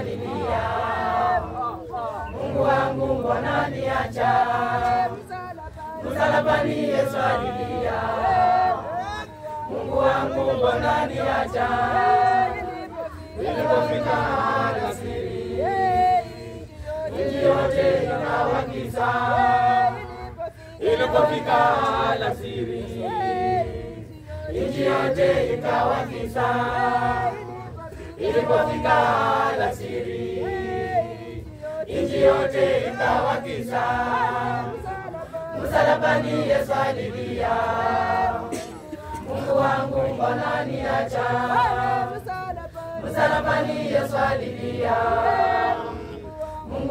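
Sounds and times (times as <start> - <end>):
choir singing a hymn unaccompanied: 0.0 - 46.9.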